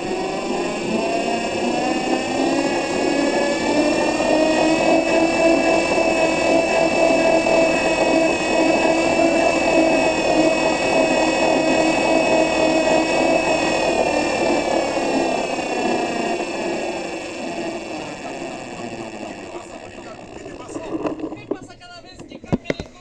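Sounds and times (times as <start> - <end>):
electric bus motor whining: 0.0 - 23.0.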